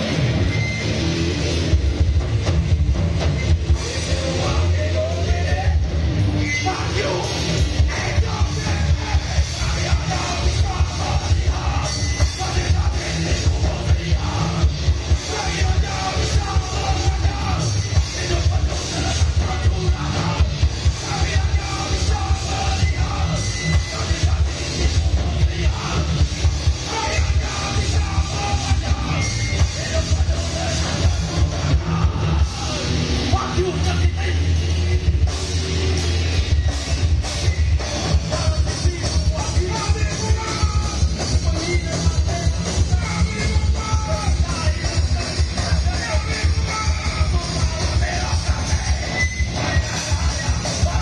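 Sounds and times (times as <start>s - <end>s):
heavy rock band playing: 0.0s - 51.0s.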